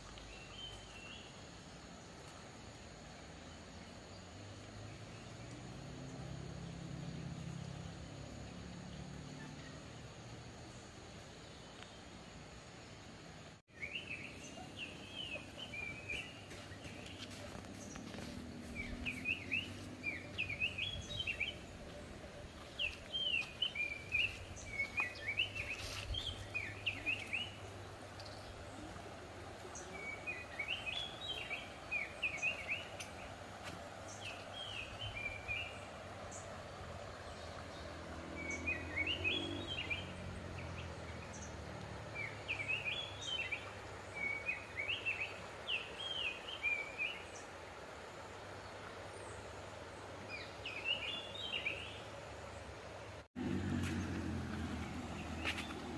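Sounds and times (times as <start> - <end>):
low outdoor hum: 0.0 - 55.9
songbird chirping: 0.0 - 55.9.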